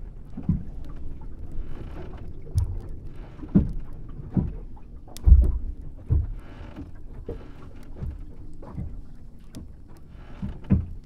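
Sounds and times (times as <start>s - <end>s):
water slapping against boat hull: 0.0s - 11.0s.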